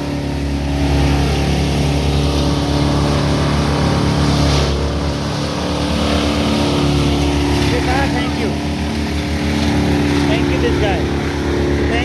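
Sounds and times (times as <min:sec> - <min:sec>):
wood chipper engine running: 0:00.0 - 0:12.0.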